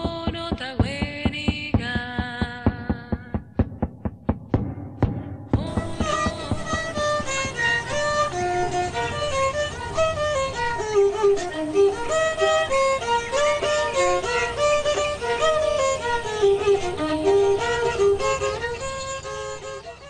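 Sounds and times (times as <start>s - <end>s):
instrumental melody: 3.4s - 20.0s.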